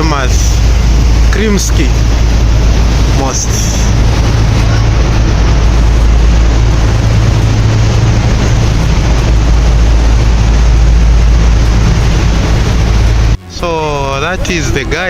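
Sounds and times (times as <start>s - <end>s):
boat engine low rumble: 0.0s - 15.0s
rushing water noise: 0.0s - 15.0s.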